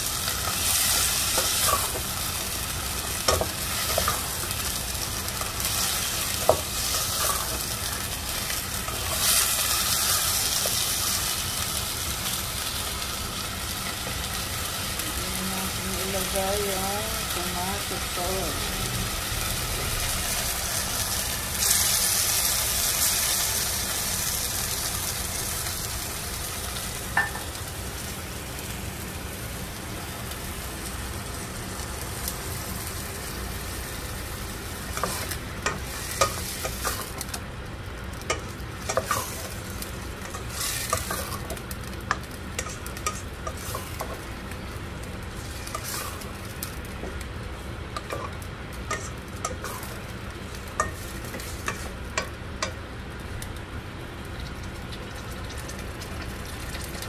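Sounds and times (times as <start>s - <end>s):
pork sizzling in a pot: 0.0s - 57.0s.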